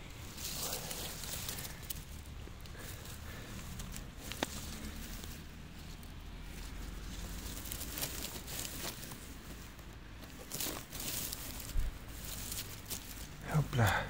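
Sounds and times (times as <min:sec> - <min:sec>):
low steady rumble: 0:00.0 - 0:14.0
rustling of plants and moss: 0:00.0 - 0:14.0.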